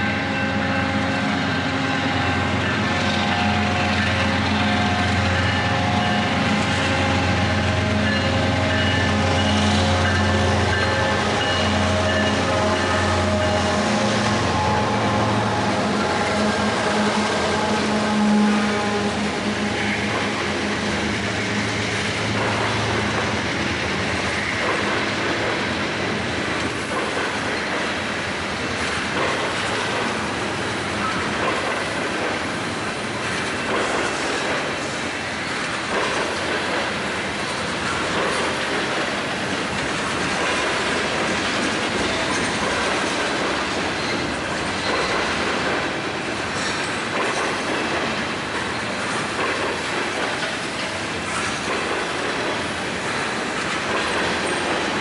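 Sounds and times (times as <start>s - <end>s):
train wheels clicking over rail joints: 2.4s - 55.0s.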